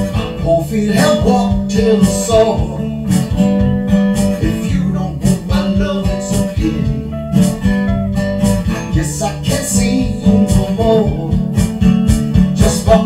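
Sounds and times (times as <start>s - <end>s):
picked guitar melody: 0.0s - 13.0s
low bass line: 0.6s - 12.6s.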